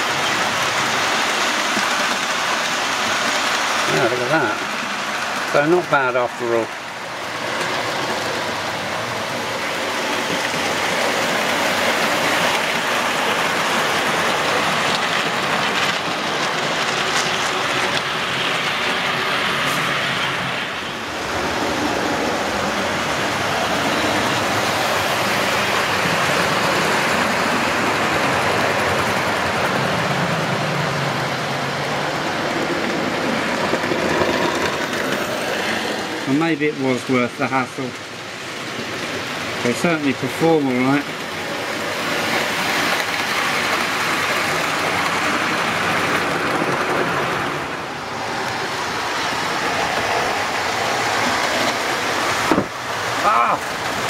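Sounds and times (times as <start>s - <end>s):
model trains rolling on rails: 0.0s - 54.0s.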